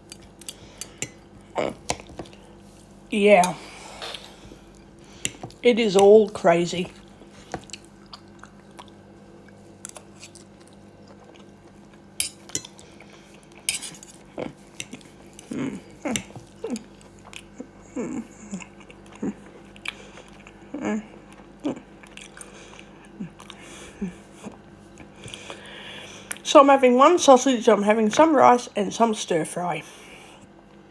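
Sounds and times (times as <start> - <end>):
person chewing: 0.0 - 5.6, 6.9 - 26.4.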